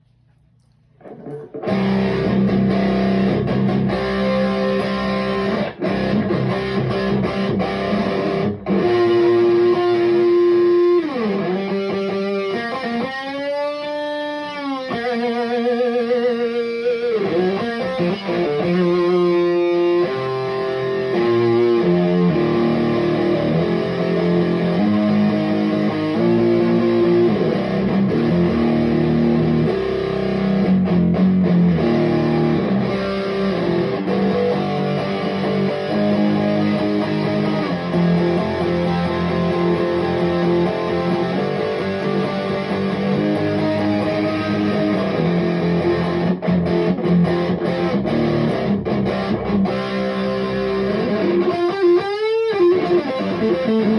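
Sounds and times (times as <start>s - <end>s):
distorted electric guitar music: 1.0s - 53.9s.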